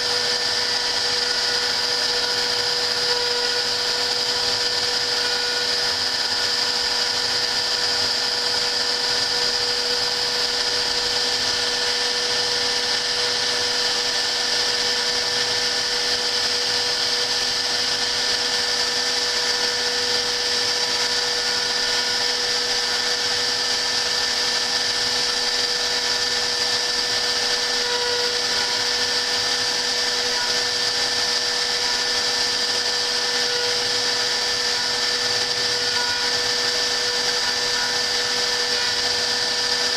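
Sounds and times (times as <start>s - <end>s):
router spindle motor whining: 0.0s - 39.9s.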